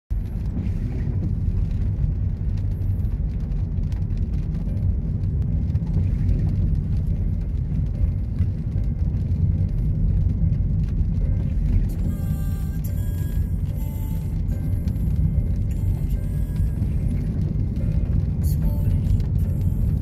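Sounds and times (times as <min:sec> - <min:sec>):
engine and tyre rumble: 0:00.1 - 0:20.0
raindrops ticking on windscreen: 0:00.1 - 0:20.0.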